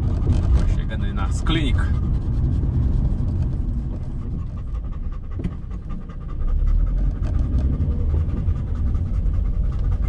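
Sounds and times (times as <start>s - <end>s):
car engine and road noise: 0.0s - 10.0s
dog panting: 0.2s - 10.0s.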